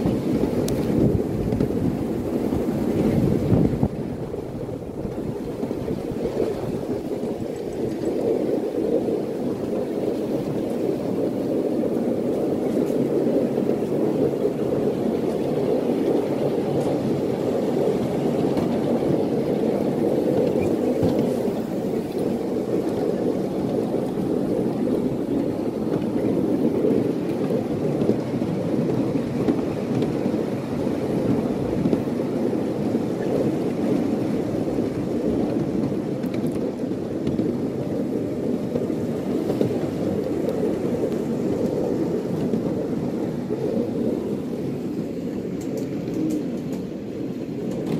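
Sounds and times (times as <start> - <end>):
rumble of wheels on rail: 0.0 - 47.9.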